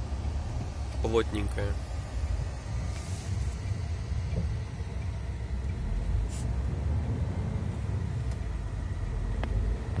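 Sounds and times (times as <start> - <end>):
truck engine rumble and road noise: 0.0 - 10.0.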